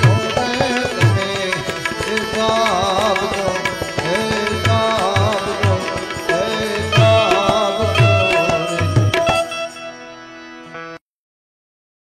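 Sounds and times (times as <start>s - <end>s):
harmonium chords: 0.0s - 11.0s.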